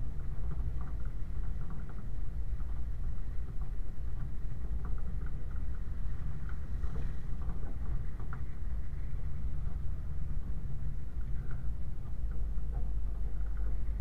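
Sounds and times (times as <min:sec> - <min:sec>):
engine and tyres rumbling on gravel: 0:00.0 - 0:14.0
small clicks and rattles: 0:00.0 - 0:14.0.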